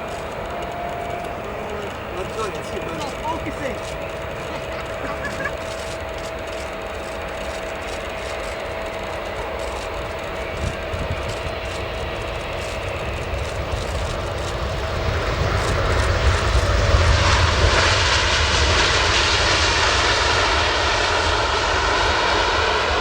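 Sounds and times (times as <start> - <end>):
jet engines and airflow: 0.0 - 23.0.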